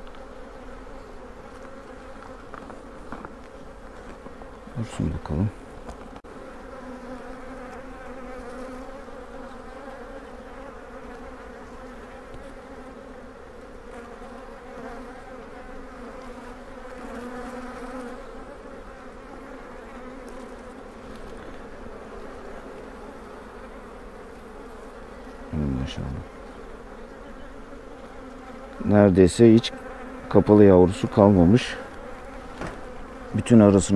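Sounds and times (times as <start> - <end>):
bees buzzing: 0.0 - 33.9.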